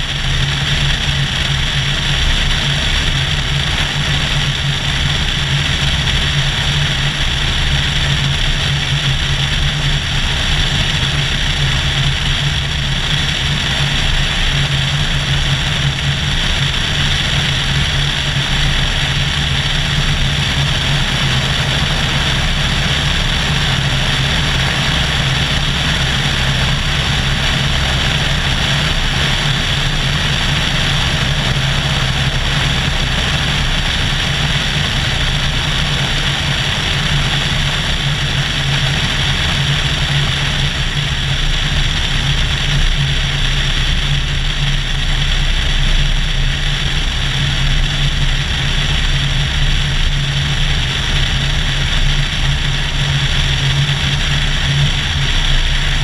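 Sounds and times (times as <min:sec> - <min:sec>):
airplane engine and propeller droning: 0:00.0 - 0:56.0.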